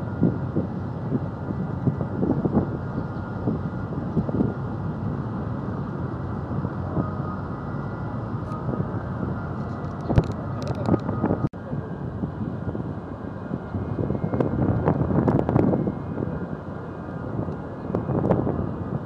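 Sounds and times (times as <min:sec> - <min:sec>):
steady low rumble: 0:00.0 - 0:19.0
wind buffeting microphone: 0:00.0 - 0:19.0.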